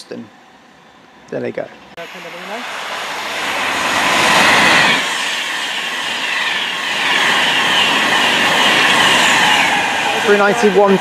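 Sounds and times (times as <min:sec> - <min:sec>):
train passing at speed: 0:00.0 - 0:11.0
wheels on rail rushing: 0:02.0 - 0:11.0.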